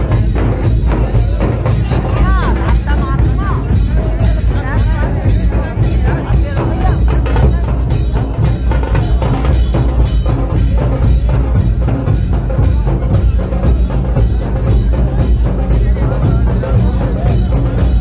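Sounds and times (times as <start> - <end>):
drums beaten in driving rhythm: 0.0 - 18.0.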